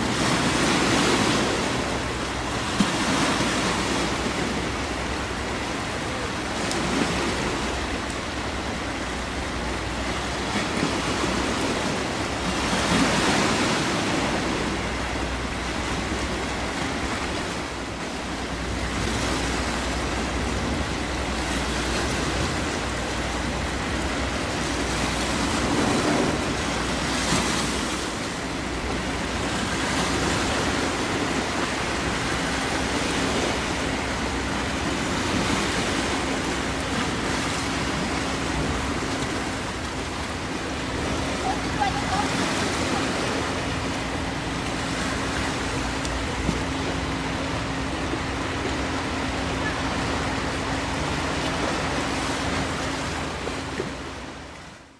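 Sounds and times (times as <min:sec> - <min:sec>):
steady low hum: 0:00.0 - 0:54.9
waves washing at shore: 0:00.0 - 0:54.9.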